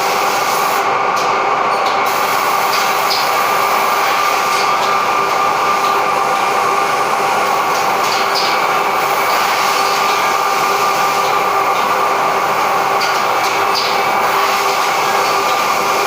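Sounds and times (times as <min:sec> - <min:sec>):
machine running with whine: 0:00.0 - 0:16.0.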